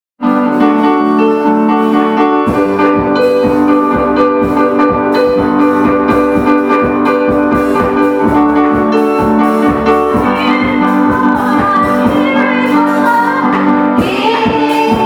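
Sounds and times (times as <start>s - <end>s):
held music chords: 0.2s - 15.0s
steady drum beat: 2.5s - 15.0s.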